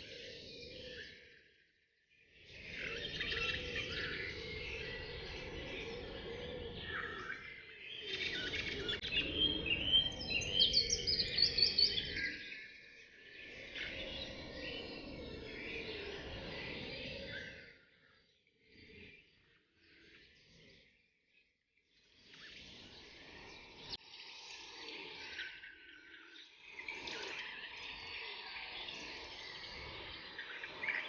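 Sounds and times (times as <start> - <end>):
birds chirping and singing: 0.0 - 31.0.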